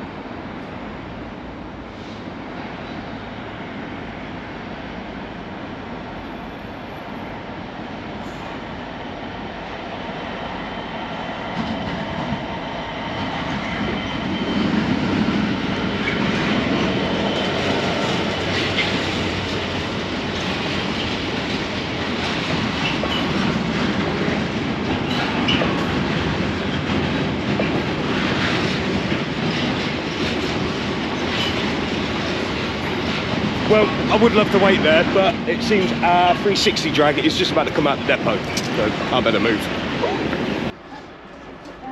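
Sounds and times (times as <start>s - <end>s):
train running on rails: 0.0s - 41.9s.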